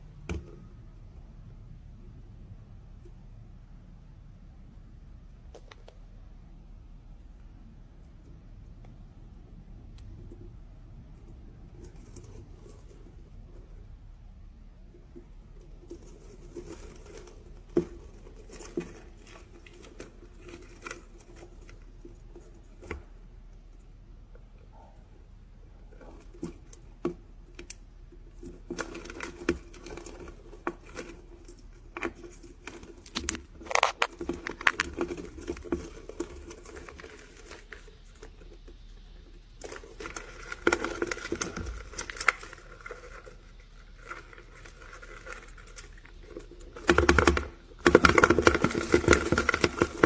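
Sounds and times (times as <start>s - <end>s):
rustling and crinkling: 0.0s - 50.0s.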